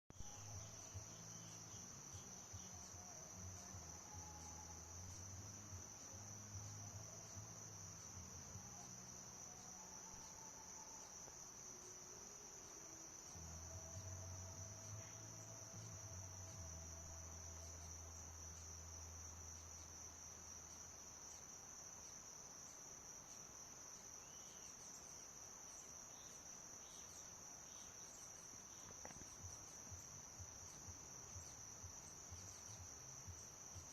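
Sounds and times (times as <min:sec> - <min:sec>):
insect chorus chirring: 0:00.1 - 0:33.9.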